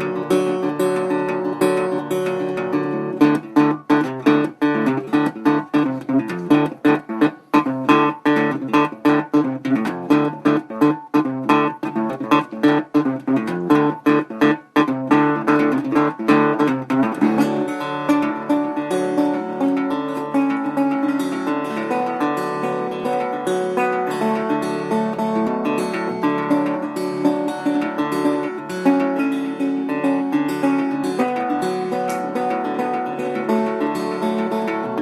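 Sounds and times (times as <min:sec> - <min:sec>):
acoustic guitar blues: 0:00.0 - 0:35.0.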